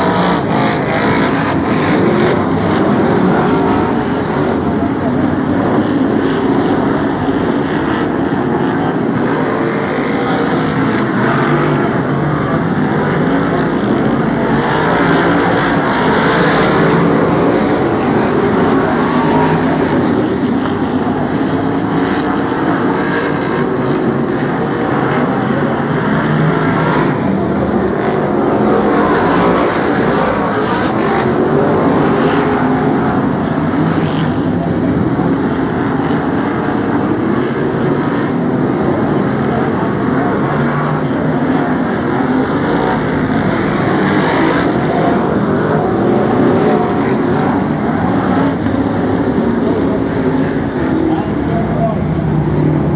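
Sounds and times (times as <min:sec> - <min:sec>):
racing car engines: 0:00.0 - 0:52.9.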